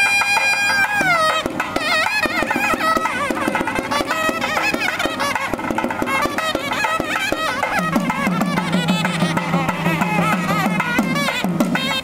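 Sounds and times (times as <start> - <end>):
double-reed wind melody: 0.0 - 12.0
drums beating brisk rhythm: 0.0 - 12.0.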